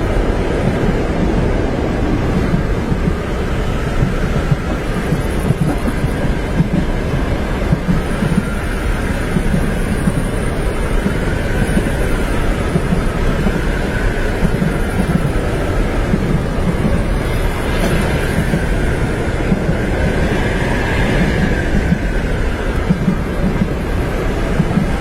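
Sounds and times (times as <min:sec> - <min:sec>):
train rumbling on tracks: 0:00.0 - 0:25.0.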